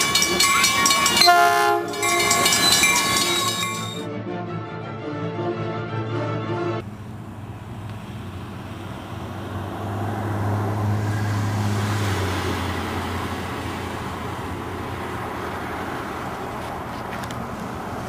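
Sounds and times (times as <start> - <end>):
diesel train rumble: 0.0 - 4.1, 6.8 - 18.0
wheel and rail noise: 0.0 - 4.1, 6.8 - 18.0.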